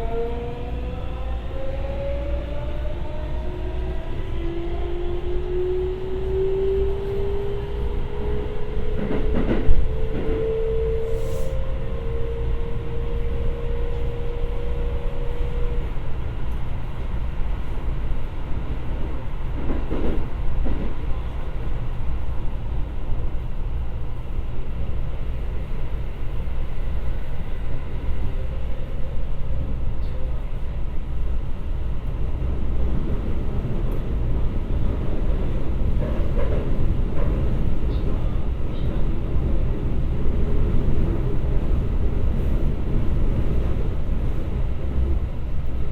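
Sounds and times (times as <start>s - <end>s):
train wheels rumbling: 0.0s - 31.0s, 31.8s - 45.9s.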